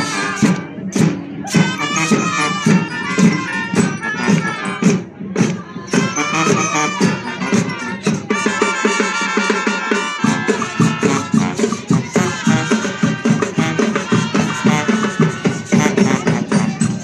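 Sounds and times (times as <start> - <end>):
brass melody: 0.0 - 5.0, 5.9 - 17.0
drum and shaker beat: 0.0 - 17.0.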